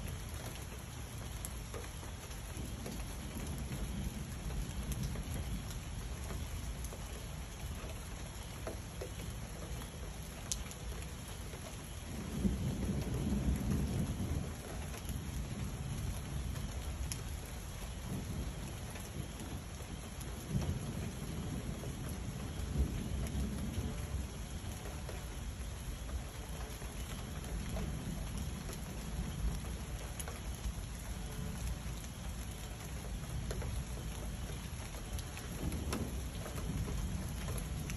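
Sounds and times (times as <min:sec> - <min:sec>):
low rumble of thunder: 0:00.0 - 0:37.9
rain falling: 0:00.0 - 0:37.9.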